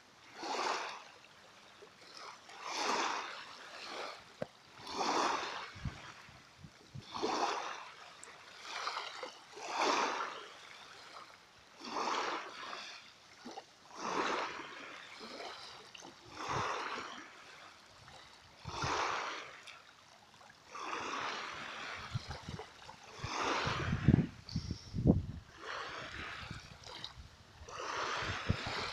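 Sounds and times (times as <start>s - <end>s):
small waves splashing: 0.0s - 28.9s.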